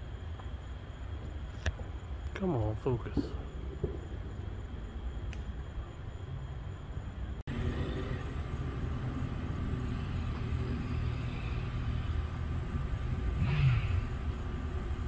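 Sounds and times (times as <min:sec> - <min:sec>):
distant rocket rumble: 0:01.7 - 0:15.0.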